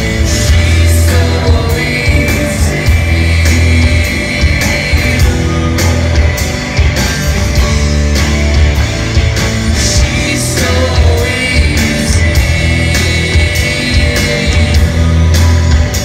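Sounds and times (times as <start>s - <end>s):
electric guitar: 0.0s - 16.0s
live rock band playing: 0.0s - 16.0s.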